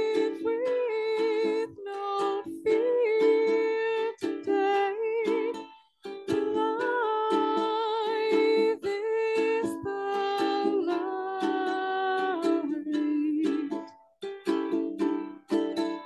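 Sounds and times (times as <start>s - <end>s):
woman singing with vibrato: 0.0s - 5.7s, 6.3s - 13.9s
electric ukulele strumming: 0.0s - 16.0s.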